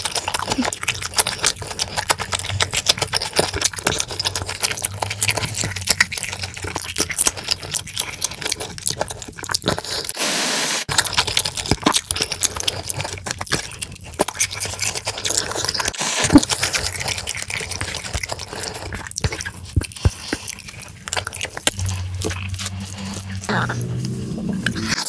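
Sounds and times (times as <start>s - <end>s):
wet chewing: 0.0s - 10.2s, 10.9s - 25.0s.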